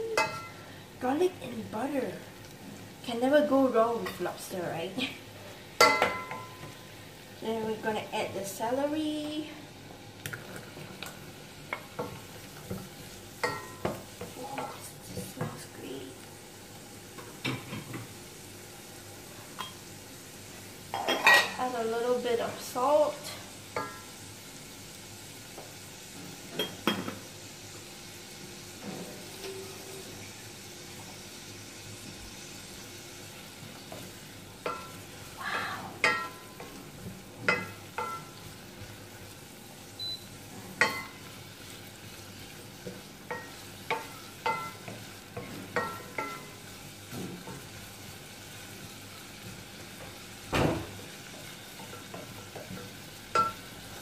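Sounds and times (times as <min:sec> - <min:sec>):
faint sizzling: 0:00.0 - 0:54.0.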